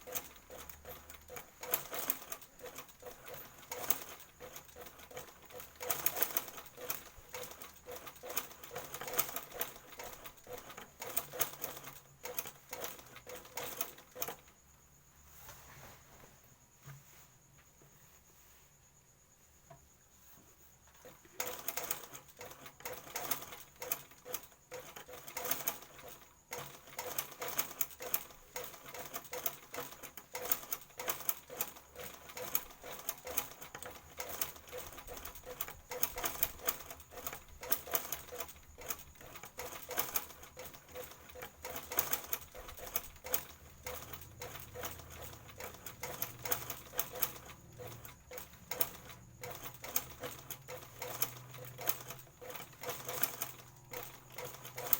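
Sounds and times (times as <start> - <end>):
sewing machine clicking: 0.0 - 14.6, 20.9 - 54.9.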